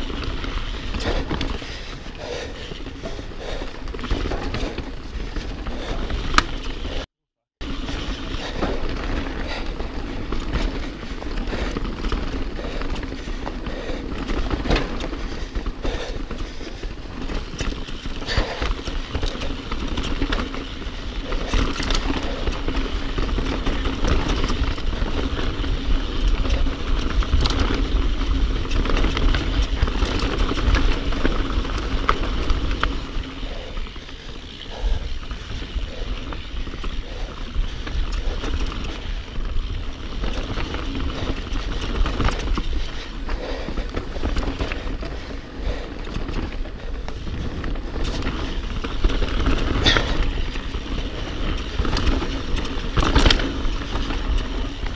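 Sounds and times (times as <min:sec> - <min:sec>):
bike rattling: 0:00.0 - 0:54.9
bike tyres rolling over stones: 0:00.0 - 0:54.9.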